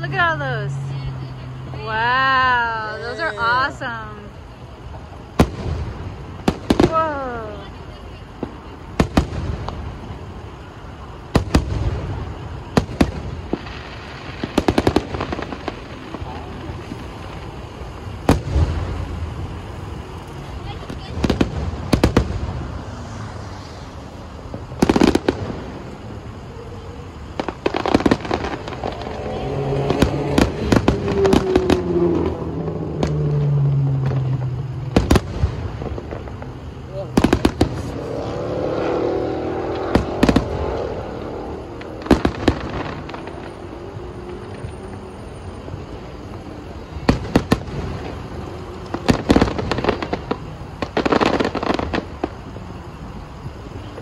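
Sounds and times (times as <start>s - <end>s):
car engines humming: 0.0s - 54.0s
fireworks bursting with sharp bangs: 0.0s - 54.0s
rapid sharp firework reports: 0.0s - 54.0s.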